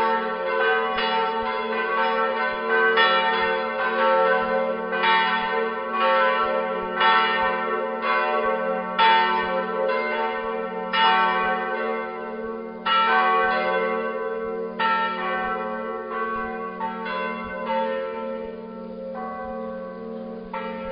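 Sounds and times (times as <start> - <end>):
church bells pealing: 0.0 - 20.9.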